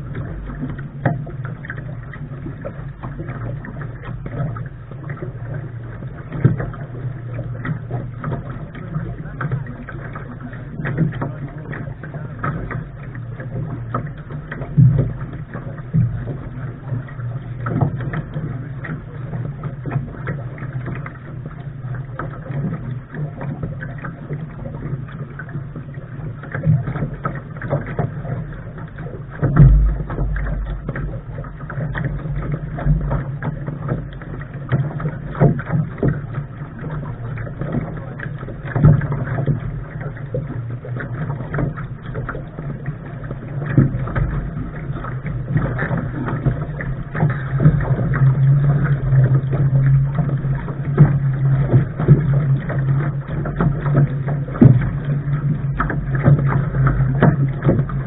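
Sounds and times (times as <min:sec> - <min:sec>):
water slapping against hull: 0:00.0 - 0:58.0.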